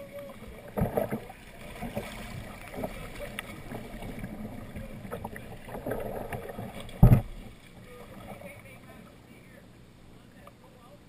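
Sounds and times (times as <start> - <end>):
paddle splashes: 0.0 - 9.1.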